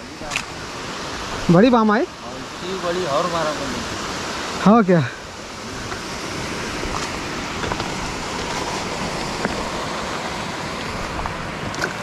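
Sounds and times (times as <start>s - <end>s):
water rushing below dam: 0.0s - 12.0s.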